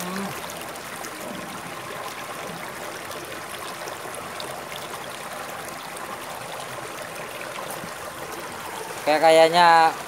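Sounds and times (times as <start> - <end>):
creek flowing over rocks: 0.0 - 10.0.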